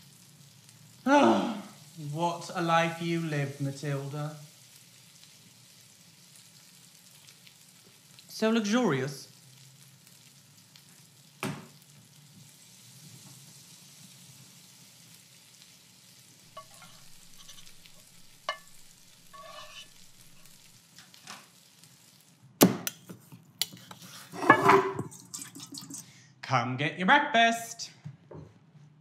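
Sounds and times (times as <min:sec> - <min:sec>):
faint sizzling hiss: 0:00.0 - 0:26.4.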